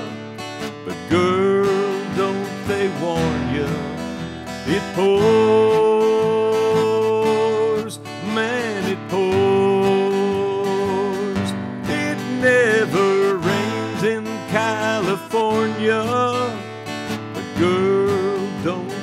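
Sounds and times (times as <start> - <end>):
man singing: 0.0 - 19.0
strummed acoustic guitar: 0.0 - 19.0.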